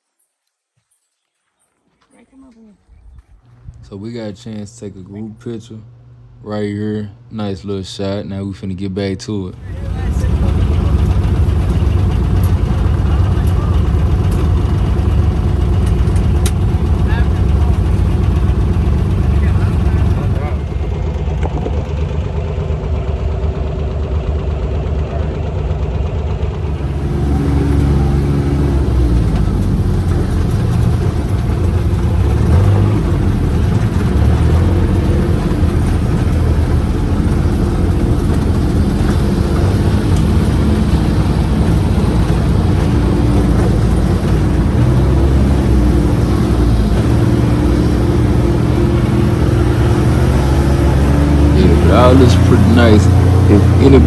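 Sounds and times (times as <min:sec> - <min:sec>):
vehicle engine running: 0:03.4 - 0:54.0.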